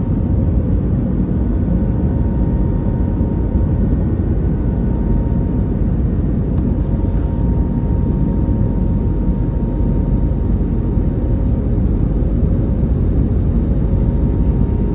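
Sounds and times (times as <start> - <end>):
jet engine roar in cabin: 0.0 - 14.9
thin steady whine: 0.0 - 14.9.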